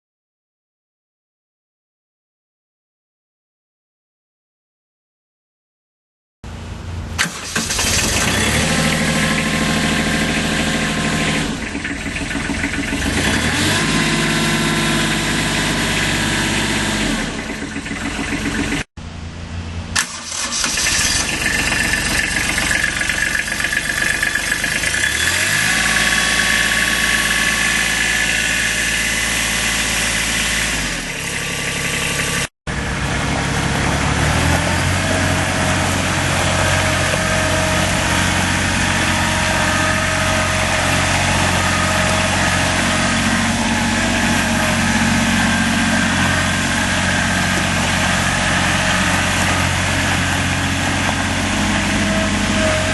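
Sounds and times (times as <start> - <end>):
diesel engine running and revving: 6.5 - 52.9.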